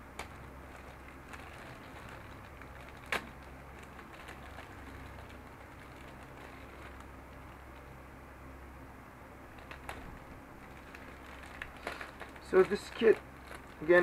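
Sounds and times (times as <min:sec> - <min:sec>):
low room hum: 0:00.0 - 0:14.0
plastic bag crinkling: 0:00.2 - 0:08.0, 0:09.5 - 0:14.0.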